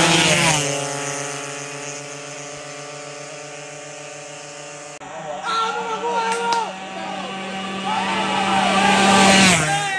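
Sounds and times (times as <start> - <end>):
drag-race car engine drone: 0.0 - 9.9.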